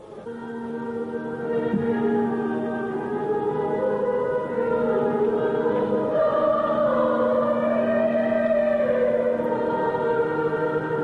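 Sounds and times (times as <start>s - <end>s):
choir singing slow church music: 0.0s - 11.0s.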